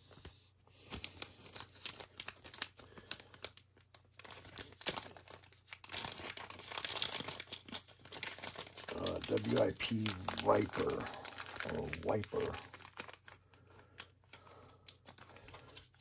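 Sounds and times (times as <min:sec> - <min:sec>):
package wrapping crinkling and tearing: 0:00.8 - 0:16.0.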